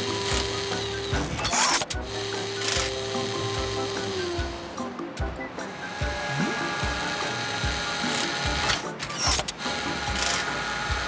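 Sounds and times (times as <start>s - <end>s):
mechanical ratcheting and clicking: 0.0s - 4.4s, 5.9s - 11.0s
background music with low beat: 0.0s - 11.0s.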